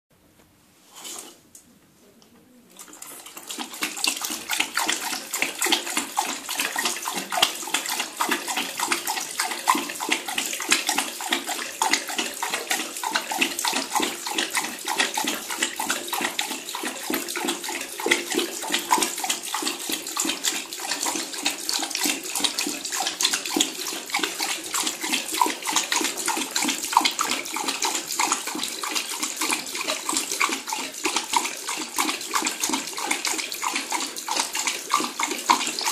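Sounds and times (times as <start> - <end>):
dog lapping water: 2.7 - 35.9
tap water running into bowl: 2.8 - 35.9.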